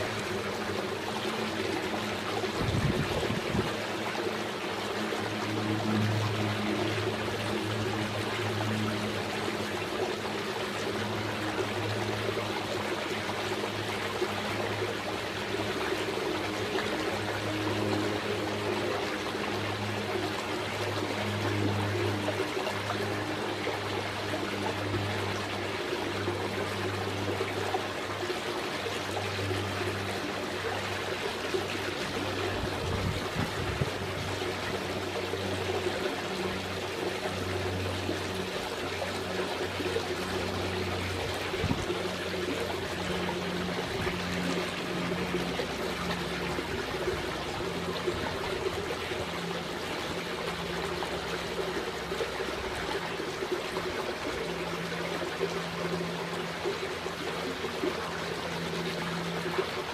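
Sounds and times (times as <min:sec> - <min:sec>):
low steady hum: 0:00.0 - 0:59.9
water trickling: 0:00.0 - 0:59.9.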